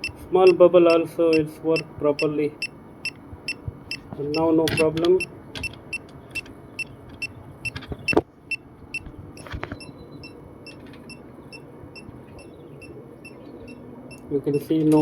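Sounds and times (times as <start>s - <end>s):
leak detector beeping: 0.0s - 14.3s.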